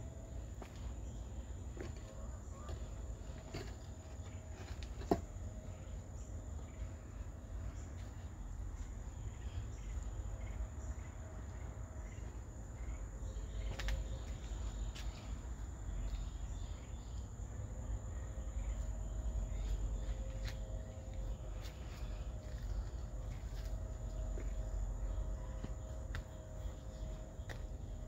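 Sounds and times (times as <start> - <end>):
low rumble: 5.3 - 28.0.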